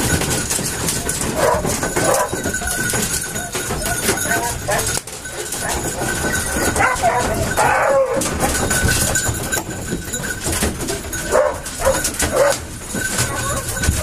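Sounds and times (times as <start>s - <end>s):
metal doors rattling: 0.0s - 14.0s
dogs yelping and whining: 0.5s - 9.8s, 10.6s - 14.0s.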